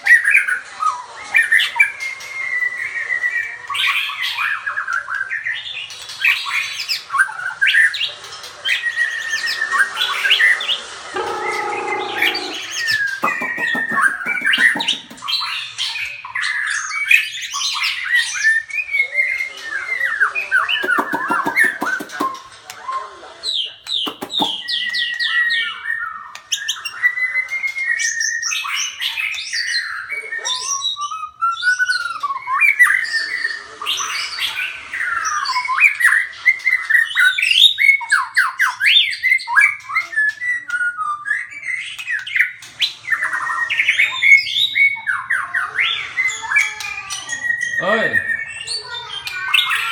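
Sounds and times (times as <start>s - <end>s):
birds calling and squawking: 3.3s - 49.9s.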